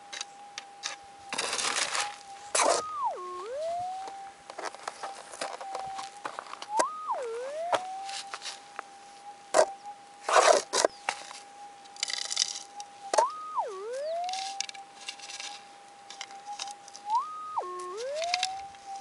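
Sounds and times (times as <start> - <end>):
metal detector hum: 0.0 - 19.0.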